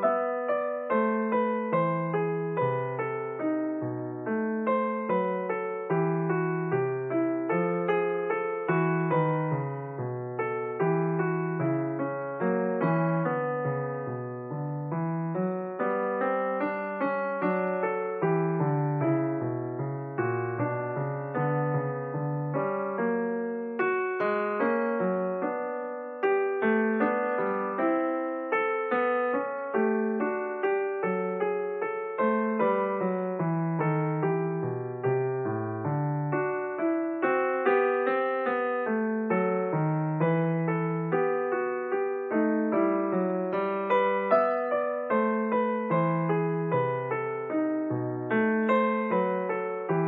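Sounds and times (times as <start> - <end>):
slow gentle piano music: 0.0 - 50.0.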